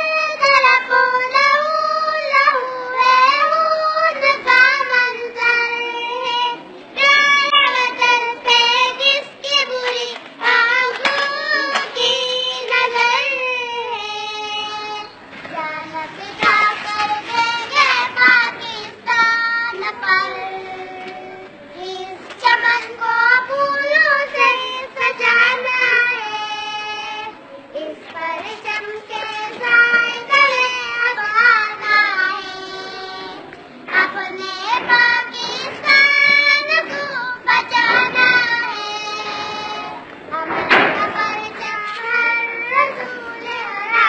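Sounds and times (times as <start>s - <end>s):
children singing: 0.0s - 44.0s.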